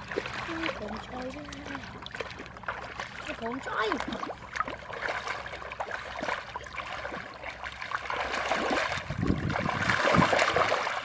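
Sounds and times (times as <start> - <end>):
hands splashing in muddy water: 0.0 - 11.0.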